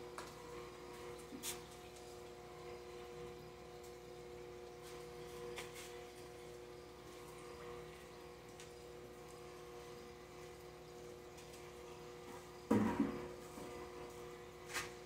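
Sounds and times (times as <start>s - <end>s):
aquarium air stone bubbling: 0.0s - 15.0s
electrical hum: 0.0s - 15.0s.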